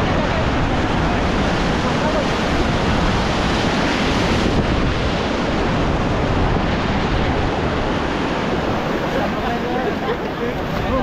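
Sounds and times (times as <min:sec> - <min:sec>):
river rapids churning: 0:00.0 - 0:11.0
wind buffeting microphone: 0:00.0 - 0:11.0.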